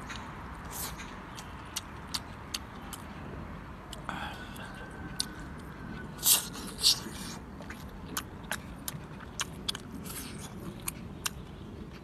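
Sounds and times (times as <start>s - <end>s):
chewing with sharp mouth clicks: 0.0s - 3.2s, 3.9s - 12.0s
low background noise: 0.0s - 12.0s.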